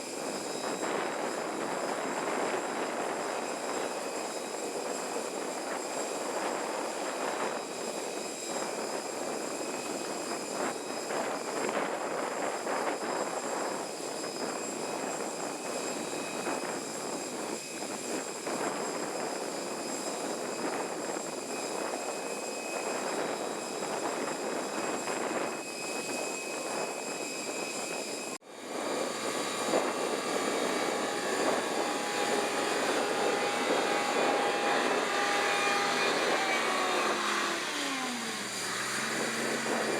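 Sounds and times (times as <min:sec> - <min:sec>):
jet aircraft rumble and whine: 0:00.0 - 0:39.9.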